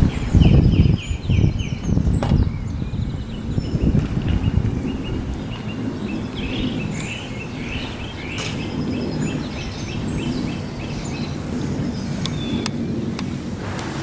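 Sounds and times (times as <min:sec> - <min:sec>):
small birds chirping: 0:00.0 - 0:13.6
steady low rumble: 0:00.0 - 0:14.0.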